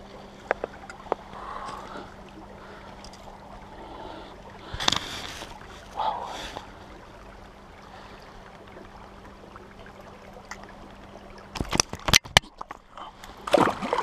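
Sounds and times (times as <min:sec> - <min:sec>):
stream over stones: 0:00.0 - 0:14.0.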